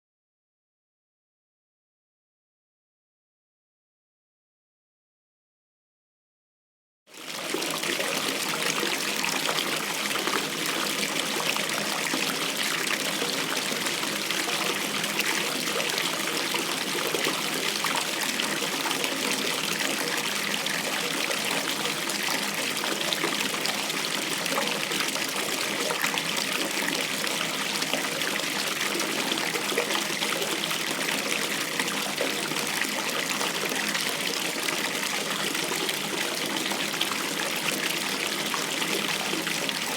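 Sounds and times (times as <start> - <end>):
tap water filling bathtub: 7.1 - 39.9.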